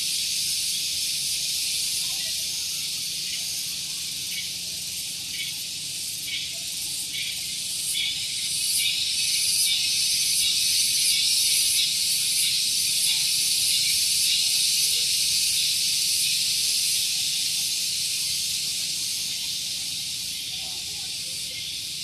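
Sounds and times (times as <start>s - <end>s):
cicadas buzzing in chorus: 0.0s - 22.0s.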